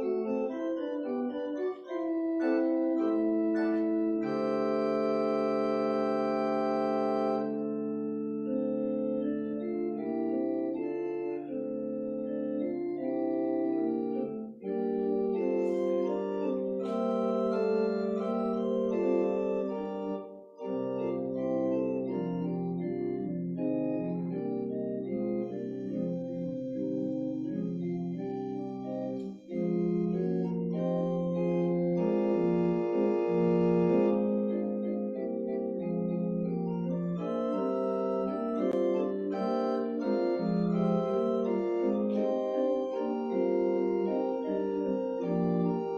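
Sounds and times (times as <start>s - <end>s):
organ playing slow chords: 0.0s - 45.9s.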